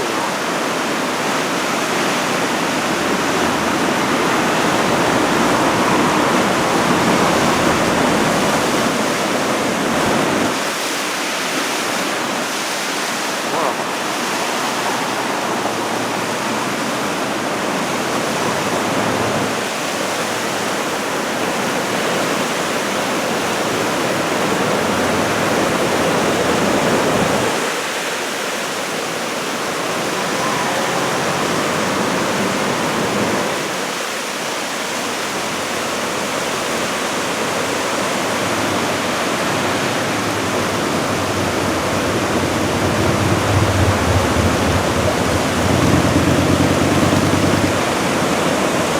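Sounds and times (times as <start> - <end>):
heavy surf breaking: 0.0 - 48.9.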